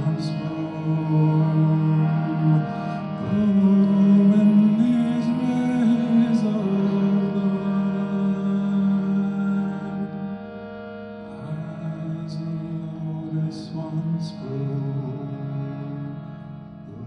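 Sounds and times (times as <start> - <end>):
slow chant-like singing: 0.0 - 17.0.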